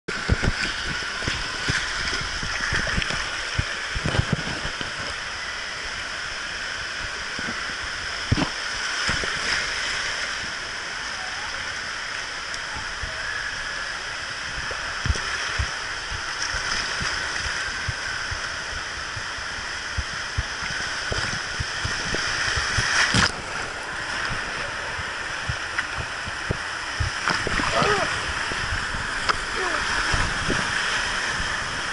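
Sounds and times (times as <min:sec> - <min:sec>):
water rushing down a slide: 0:00.1 - 0:31.9.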